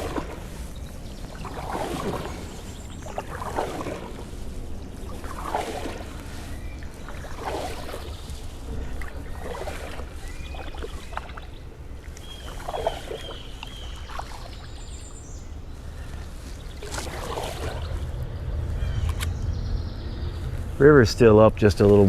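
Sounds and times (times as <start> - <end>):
canoe paddle swishing through water: 0.0 - 19.0
wind rumble on microphone: 0.0 - 22.0.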